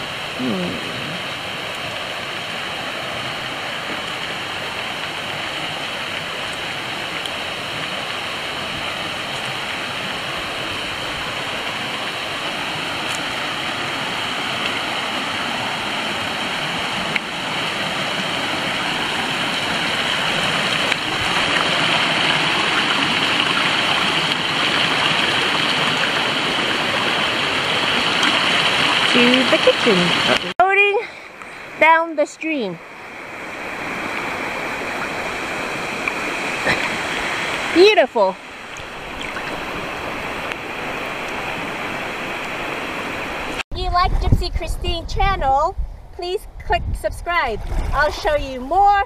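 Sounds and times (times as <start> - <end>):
creek rushing over rocks: 0.0 - 43.6.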